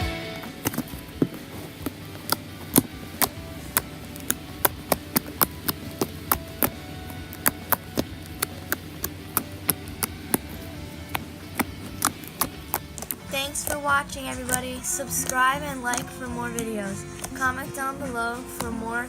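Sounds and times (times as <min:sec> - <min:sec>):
faint music: 0:00.0 - 0:19.0
slime clicking and popping: 0:00.6 - 0:17.6.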